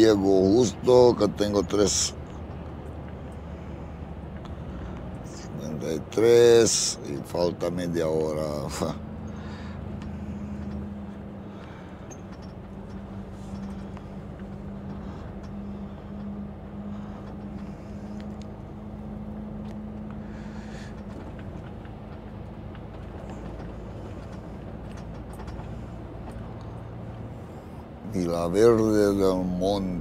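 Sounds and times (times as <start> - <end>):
truck diesel engine and road rumble: 0.0 - 30.0.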